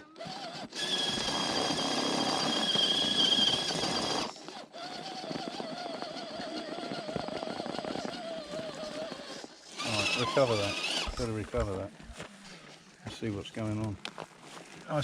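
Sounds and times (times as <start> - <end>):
electric motor whining with grinding: 0.0 - 12.3.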